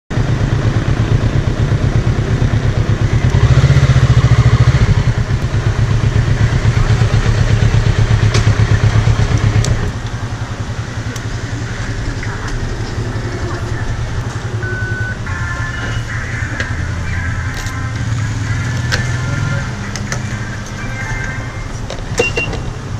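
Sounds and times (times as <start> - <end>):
motorcycle engine running: 0.1 - 22.9.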